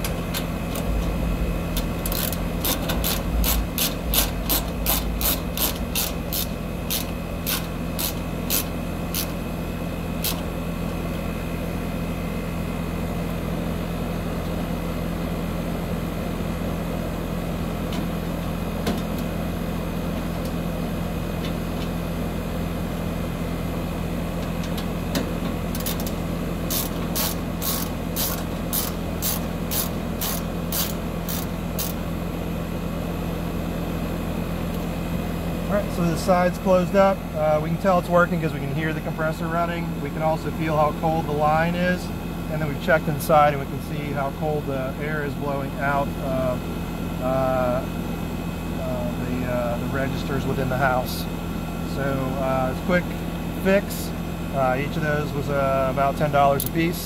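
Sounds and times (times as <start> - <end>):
heat pump unit humming: 0.0 - 57.0.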